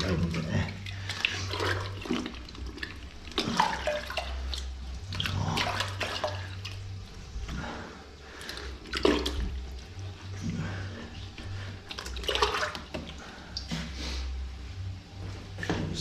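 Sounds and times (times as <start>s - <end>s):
toilet water sloshing and gurgling: 0.0s - 14.4s.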